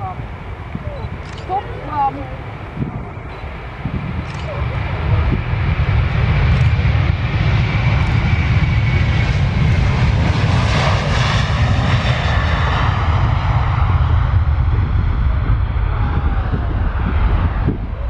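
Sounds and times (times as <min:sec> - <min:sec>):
high engine whine: 0:00.0 - 0:18.0
jet engines roaring at takeoff: 0:00.0 - 0:18.0.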